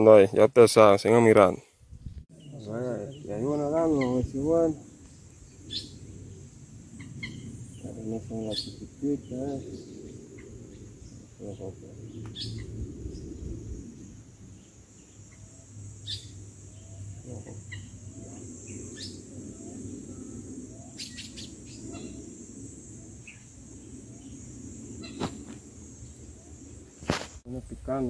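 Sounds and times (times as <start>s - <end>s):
steady high hiss: 0.0s - 28.0s
birds chirping: 1.0s - 27.1s
low rumble: 2.0s - 27.0s.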